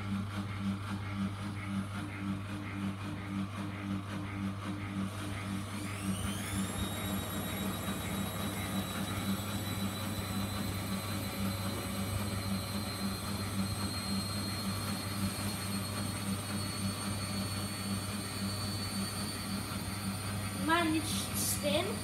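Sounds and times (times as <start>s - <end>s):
washing machine drum spinning: 0.0s - 22.0s.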